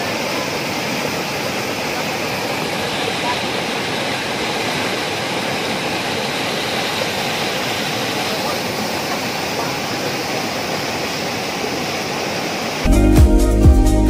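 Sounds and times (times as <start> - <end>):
water rushing over rocks: 0.0 - 12.9.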